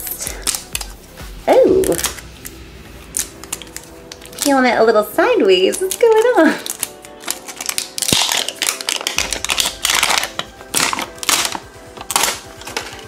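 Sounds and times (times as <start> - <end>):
background music: 0.0 - 13.0
plastic wrapper crinkling: 0.3 - 0.9, 1.8 - 13.0.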